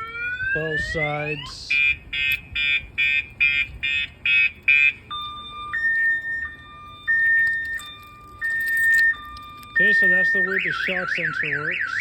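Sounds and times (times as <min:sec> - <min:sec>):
car alarm siren: 0:00.0 - 0:12.0.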